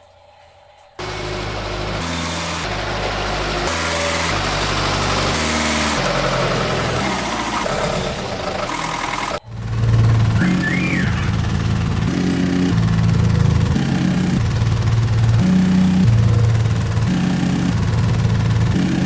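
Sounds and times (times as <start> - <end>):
heavy engine-like running noise: 1.0 - 19.0.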